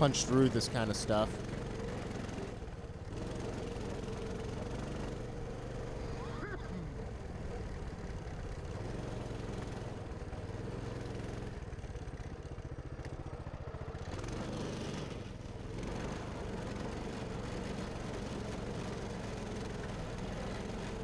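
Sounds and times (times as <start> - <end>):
mini bike engine running: 0.0 - 21.0.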